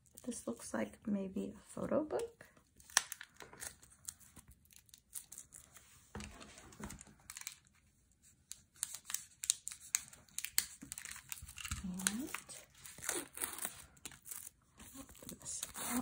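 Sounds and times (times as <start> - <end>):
plastic wrapping crinkling: 2.7 - 16.0.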